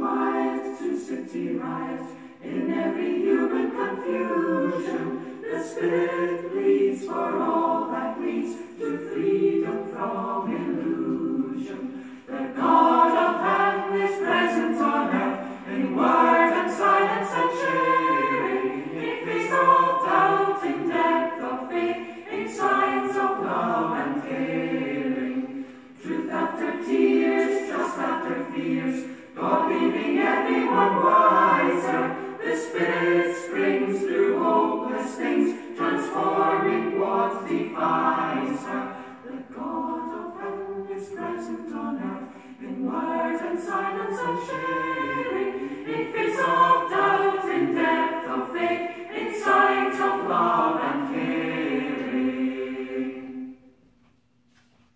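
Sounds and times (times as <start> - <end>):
choir singing: 0.0 - 53.9.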